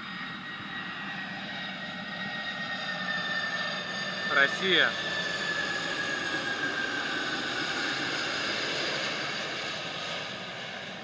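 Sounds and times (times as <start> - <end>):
jet airliner passing overhead: 0.0 - 11.0.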